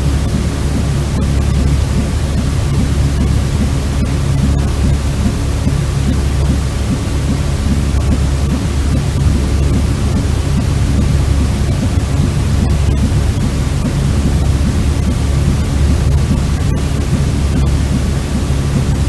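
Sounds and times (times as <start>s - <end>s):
white noise with deep rumble: 0.0s - 19.0s.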